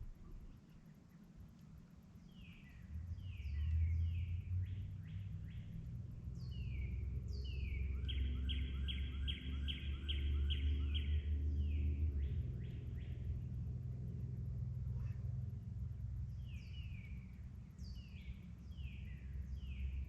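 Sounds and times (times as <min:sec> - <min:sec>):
steady low rumble: 0:00.0 - 0:00.7, 0:02.3 - 0:20.0
songbirds singing: 0:02.2 - 0:20.0.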